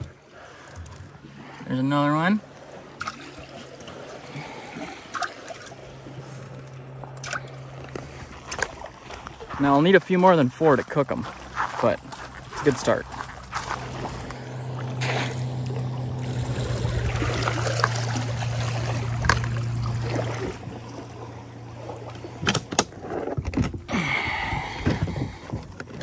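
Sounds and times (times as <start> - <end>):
low motor hum: 0.0 - 26.0
water splashing and trickling: 0.0 - 26.0.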